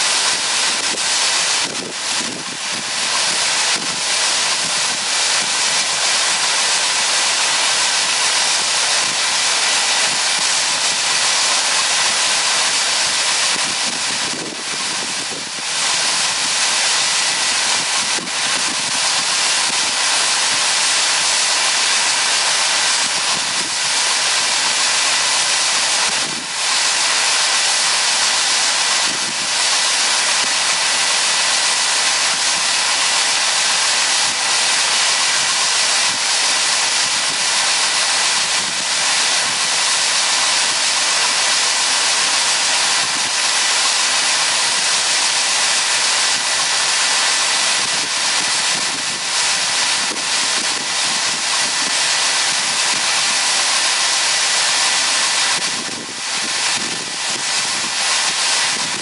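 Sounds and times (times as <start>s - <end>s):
soybeans pouring with loud hiss: 0.0s - 59.0s.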